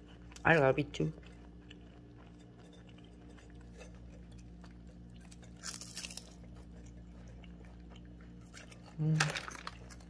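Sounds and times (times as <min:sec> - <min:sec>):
cat crunching and chewing: 0:00.0 - 0:10.0.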